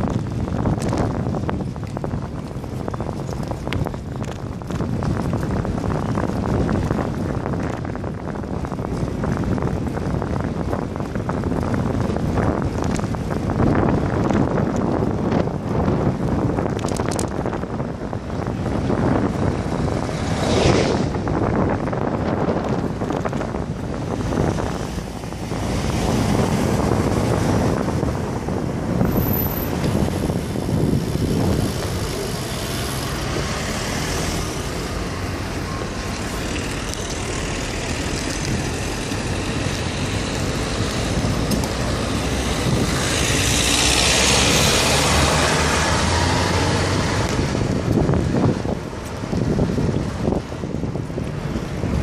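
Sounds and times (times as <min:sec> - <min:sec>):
passing road traffic: 0:00.0 - 0:52.0
wind rushing over microphone: 0:00.0 - 0:52.0.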